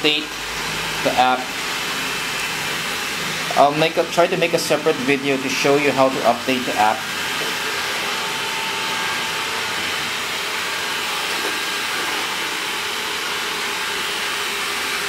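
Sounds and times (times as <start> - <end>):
robot vacuum running: 0.0 - 15.0.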